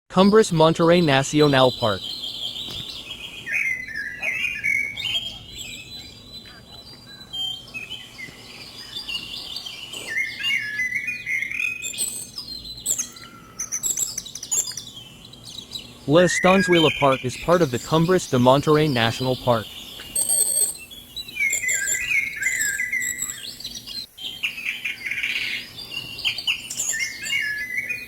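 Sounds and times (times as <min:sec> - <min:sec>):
birds chirping: 0:00.2 - 0:28.0.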